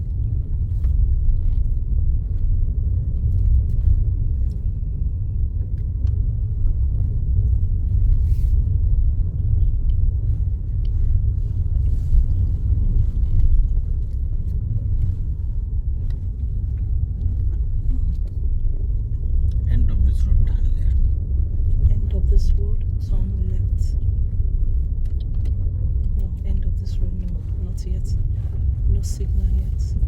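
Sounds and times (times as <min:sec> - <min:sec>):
car interior road rumble: 0:00.0 - 0:30.0.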